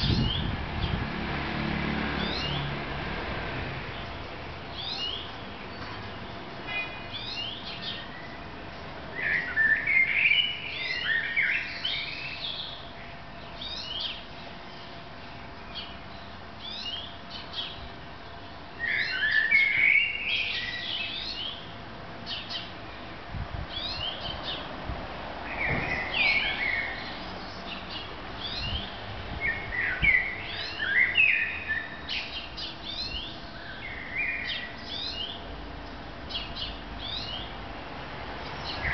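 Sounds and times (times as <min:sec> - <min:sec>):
songbirds chirping and singing: 0:02.2 - 0:02.8, 0:03.9 - 0:24.8, 0:25.4 - 0:37.6, 0:38.4 - 0:38.9.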